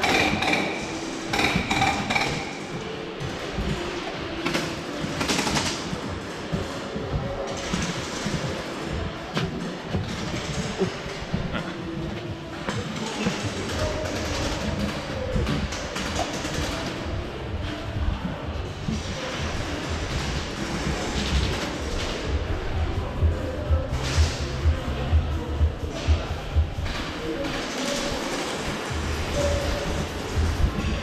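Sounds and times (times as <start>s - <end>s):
background music: 0.0s - 31.0s.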